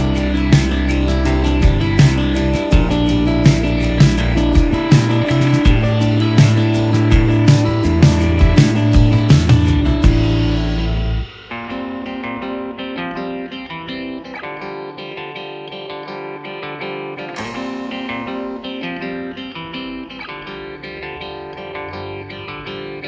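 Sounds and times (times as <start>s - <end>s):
soft plucked guitar melody: 0.0s - 23.0s.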